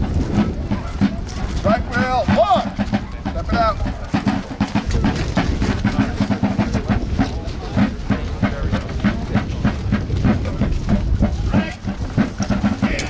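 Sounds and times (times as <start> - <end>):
soldiers marching footfalls: 0.0 - 13.0.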